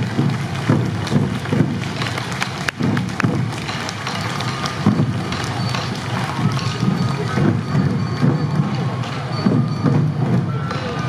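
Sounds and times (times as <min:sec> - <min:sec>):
crowd hubbub: 0:00.0 - 0:11.0
taiko drums thumping: 0:00.0 - 0:11.0.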